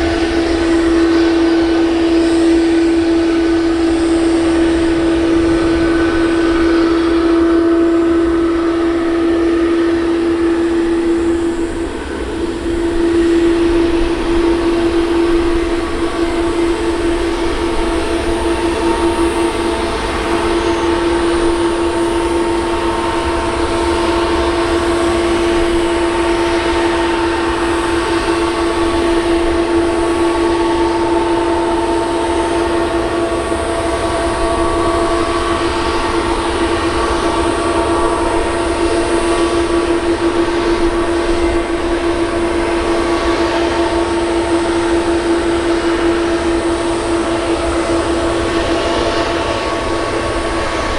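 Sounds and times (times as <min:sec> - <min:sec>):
jet engines droning: 0:00.0 - 0:50.9.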